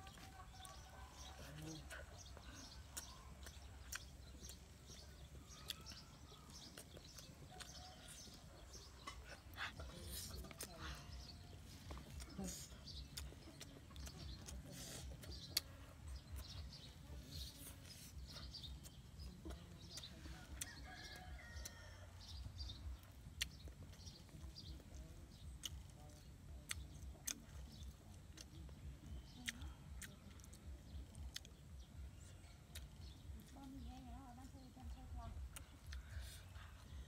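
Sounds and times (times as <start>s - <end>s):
person eating crisp food: 0.0s - 21.8s, 22.4s - 33.5s
birds and chickens chirping: 0.0s - 37.0s.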